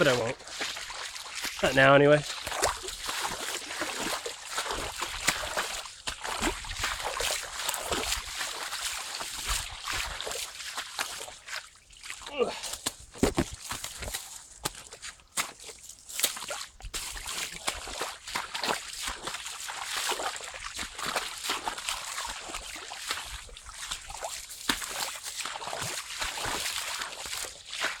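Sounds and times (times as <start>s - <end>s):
footsteps sloshing through water: 0.0s - 28.0s.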